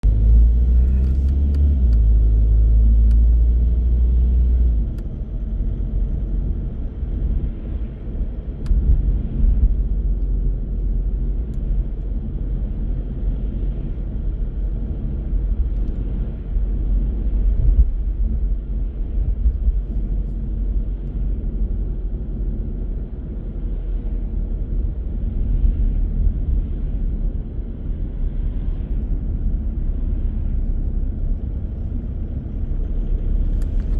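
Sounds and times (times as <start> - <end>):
car driving: 0.0 - 33.9.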